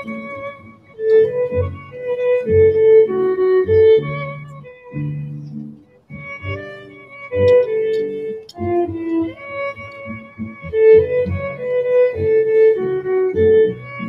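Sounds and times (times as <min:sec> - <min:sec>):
slow violin music: 0:00.0 - 0:14.0.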